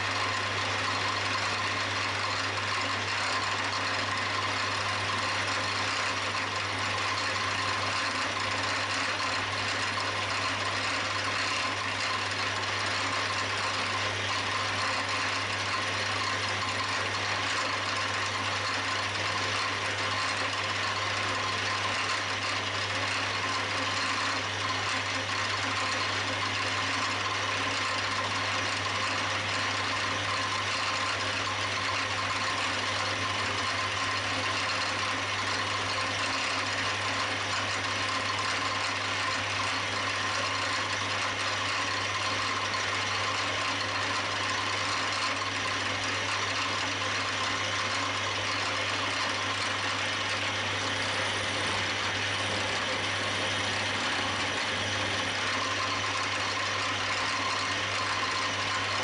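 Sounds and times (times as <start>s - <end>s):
milling machine humming and whining: 0.0s - 59.0s.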